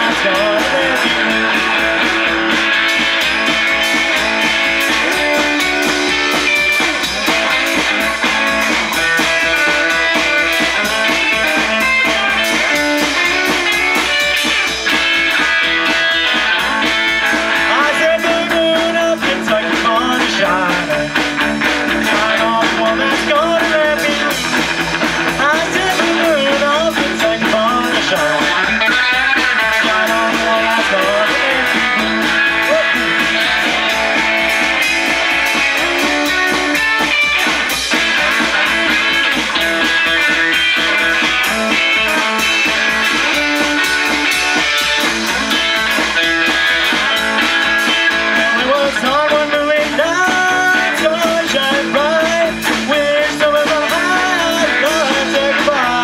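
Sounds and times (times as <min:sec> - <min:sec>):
drums: 0:00.0 - 0:56.0
electric guitar: 0:00.0 - 0:56.0
rockabilly band playing live: 0:00.0 - 0:56.0.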